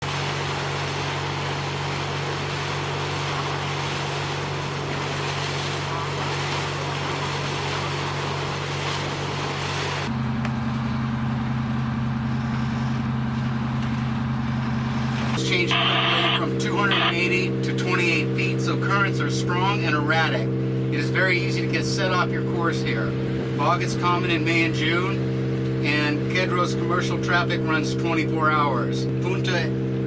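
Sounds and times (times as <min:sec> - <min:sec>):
wind and water noise: 0:00.0 - 0:11.0, 0:12.2 - 0:30.0
boat engine humming: 0:00.0 - 0:30.0.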